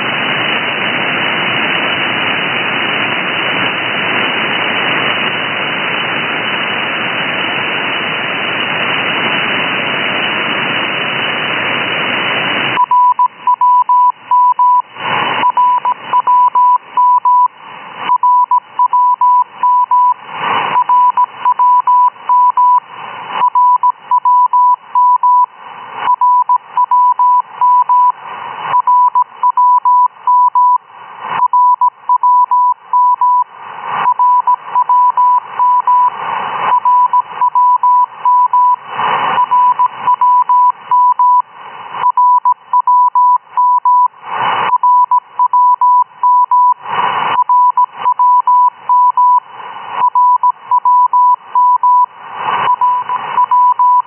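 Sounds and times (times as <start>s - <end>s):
radio noise and crackling: 0.0s - 54.0s.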